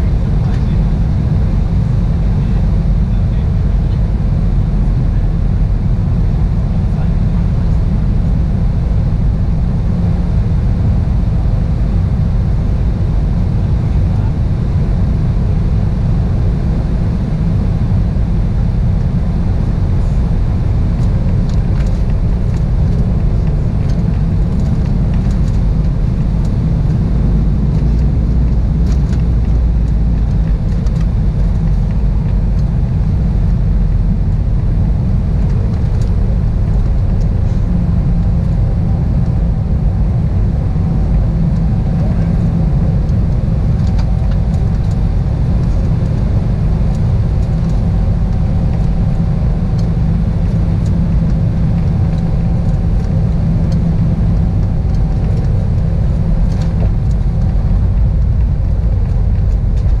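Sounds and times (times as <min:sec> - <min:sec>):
airplane cabin engine roar: 0:00.0 - 1:00.0.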